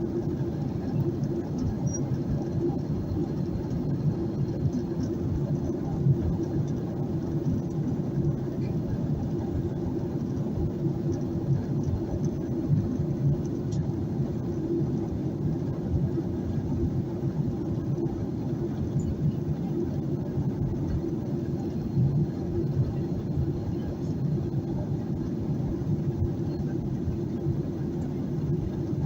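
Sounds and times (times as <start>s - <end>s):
airplane cabin drone: 0.0s - 29.0s.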